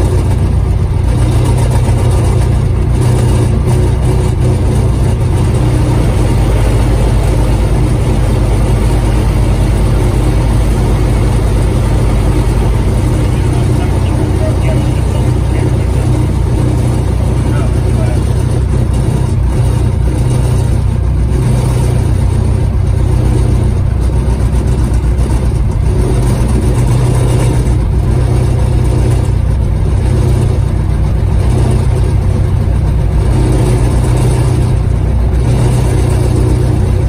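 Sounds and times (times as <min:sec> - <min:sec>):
aircraft piston engines idling: 0:00.0 - 0:37.0.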